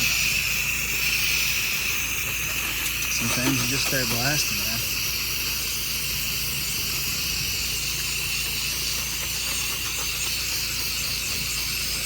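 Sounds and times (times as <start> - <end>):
machine humming: 0.0 - 12.0
pressure washer spraying water: 0.0 - 12.0.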